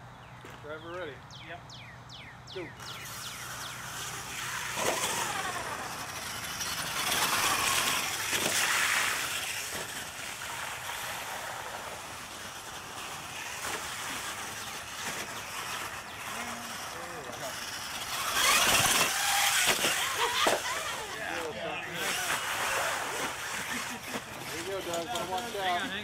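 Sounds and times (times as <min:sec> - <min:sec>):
rc monster truck motor: 0:02.0 - 0:26.0.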